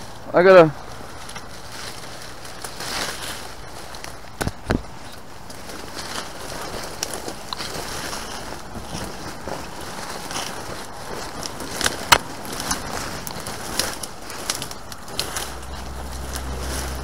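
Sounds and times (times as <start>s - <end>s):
dry leaves and twigs crackling: 0.0s - 17.0s.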